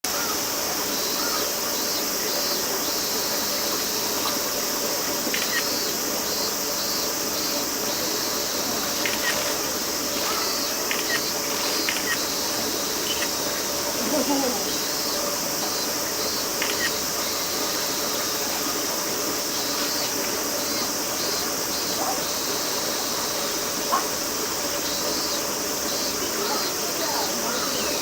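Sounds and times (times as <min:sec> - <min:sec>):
insects droning: 0:00.1 - 0:28.0.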